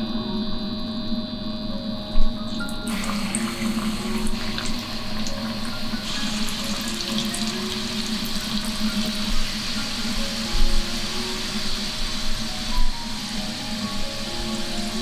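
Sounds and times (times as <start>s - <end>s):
food deep-frying in oil: 2.5s - 15.0s.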